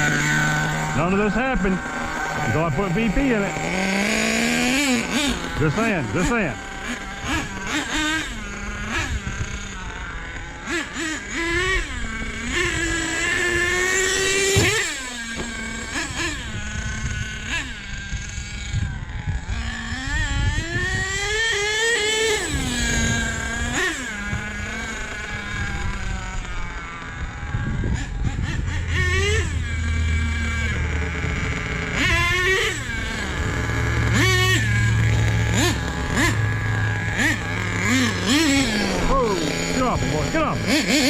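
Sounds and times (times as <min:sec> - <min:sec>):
small engine buzzing whine revving: 0:00.0 - 0:41.0.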